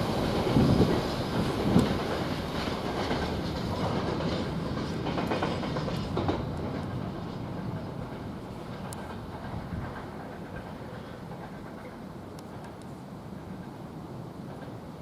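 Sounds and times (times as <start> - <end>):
freight wagons rolling past: 0.0 - 12.7
wheels clicking over rail joints: 0.0 - 15.0.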